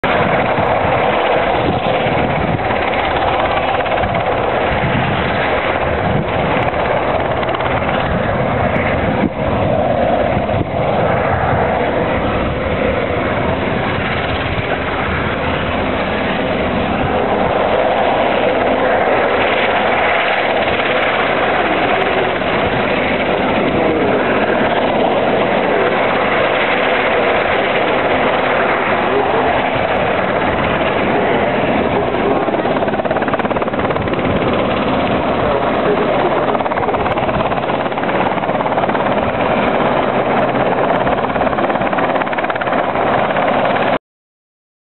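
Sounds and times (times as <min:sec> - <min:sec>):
helicopter hovering: 0:00.0 - 0:44.0.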